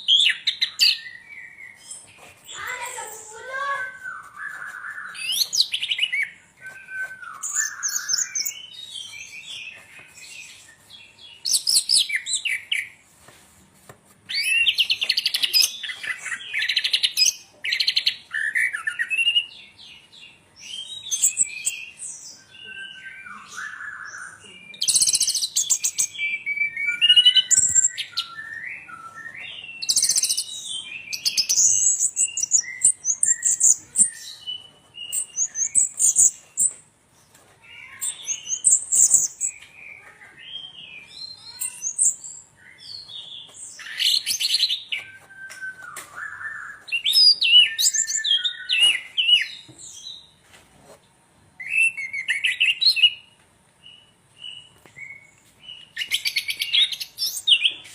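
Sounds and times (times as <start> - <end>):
songbird singing: 0.0 - 13.0, 14.3 - 50.4, 51.6 - 57.9.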